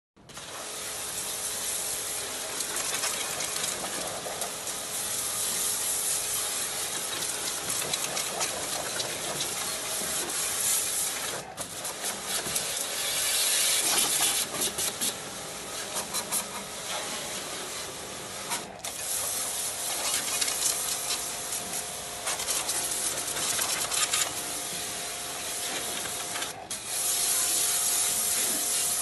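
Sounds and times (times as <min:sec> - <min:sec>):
water spray hissing on metal: 0:00.4 - 0:29.0.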